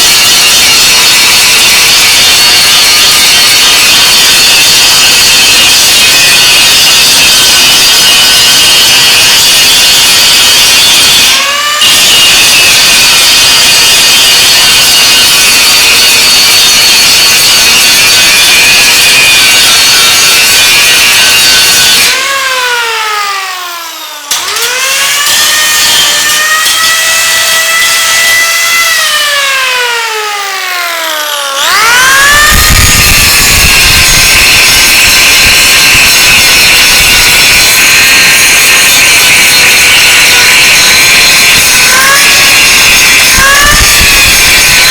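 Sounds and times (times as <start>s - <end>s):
angle grinder grinding: 0.0s - 44.9s.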